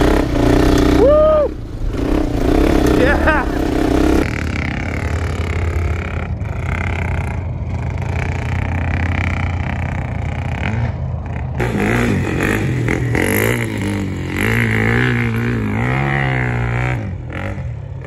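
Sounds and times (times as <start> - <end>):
quad engine revving: 0.0 - 18.0.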